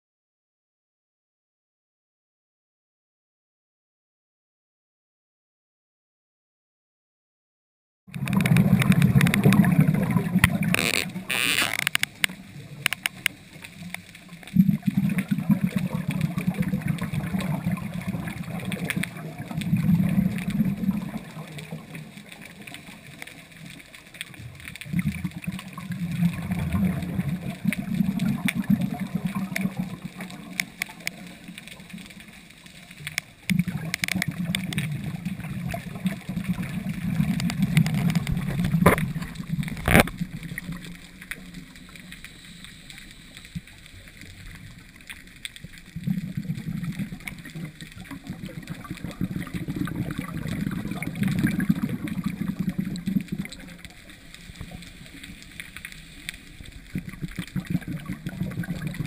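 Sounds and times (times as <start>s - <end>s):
exhaled bubbles underwater: 8.1s - 59.0s.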